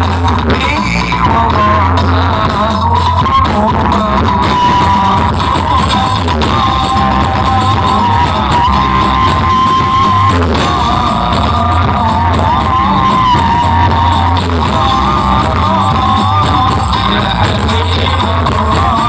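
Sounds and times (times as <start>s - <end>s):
loud music with heavy bass: 0.0s - 19.0s
wavering lead melody: 0.0s - 19.0s.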